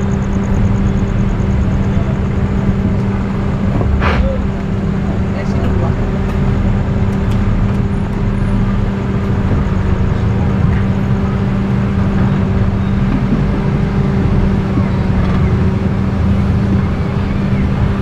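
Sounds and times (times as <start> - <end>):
low motor hum: 0.0 - 18.0
street traffic noise: 0.0 - 18.0.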